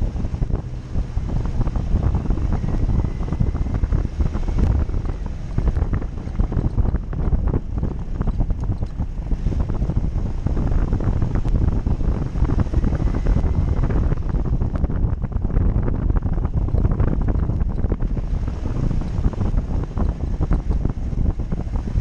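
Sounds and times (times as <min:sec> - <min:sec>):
off-road vehicle engine rumble: 0:00.0 - 0:22.0
vehicle knocks and rattles: 0:00.0 - 0:22.0
wind buffeting microphone: 0:00.0 - 0:22.0.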